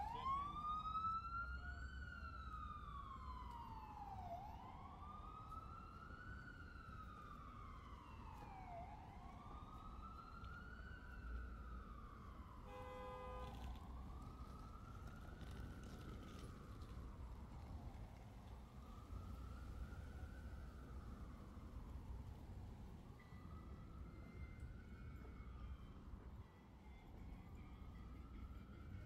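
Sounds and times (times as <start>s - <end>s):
low traffic rumble: 0.0s - 24.0s
emergency siren wailing: 0.0s - 26.6s.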